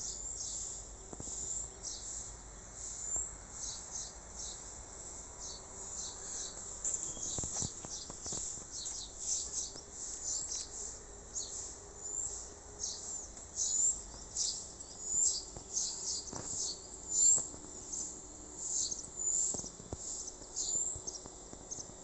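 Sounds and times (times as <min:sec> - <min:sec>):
small birds chirping: 0:00.0 - 0:04.8, 0:05.4 - 0:22.0.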